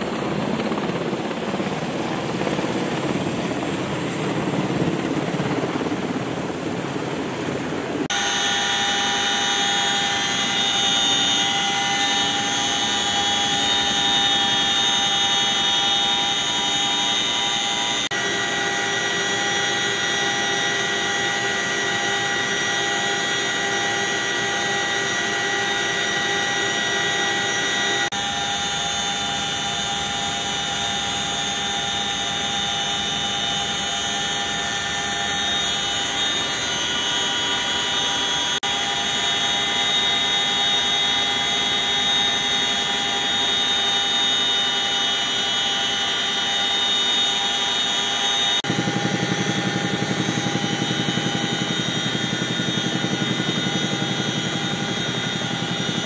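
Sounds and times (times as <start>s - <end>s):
helicopter turbine drone: 0.0s - 56.0s.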